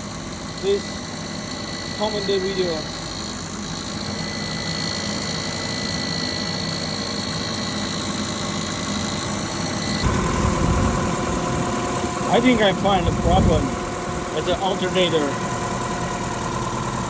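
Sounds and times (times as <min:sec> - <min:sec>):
car engine idling: 0:00.0 - 0:17.0
high-pitched alternator whine: 0:00.0 - 0:17.0.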